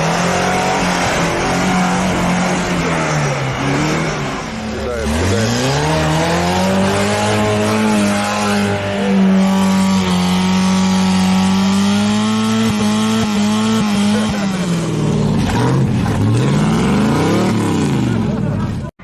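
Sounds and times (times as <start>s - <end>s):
engine revving: 0.0s - 18.9s.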